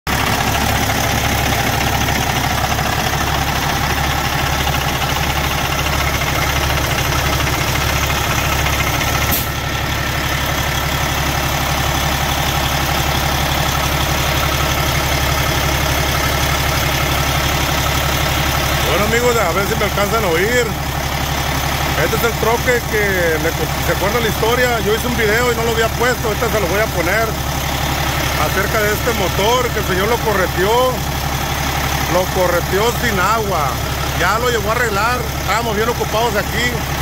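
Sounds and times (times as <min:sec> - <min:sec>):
diesel engine idling: 0:00.1 - 0:37.0.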